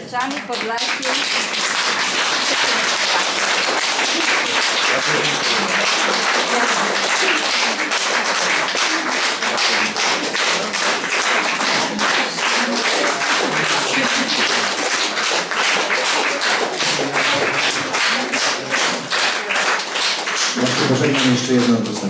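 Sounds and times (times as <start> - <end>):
audience clapping in rhythm: 0.0 - 22.0.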